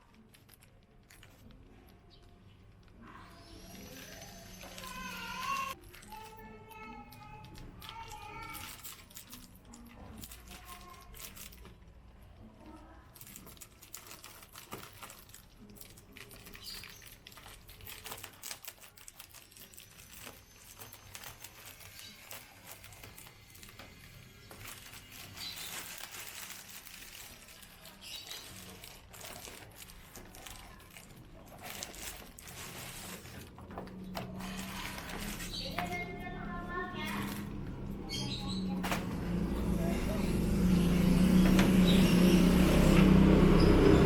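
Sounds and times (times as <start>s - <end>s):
plastic packaging crinkling: 0.0s - 43.9s.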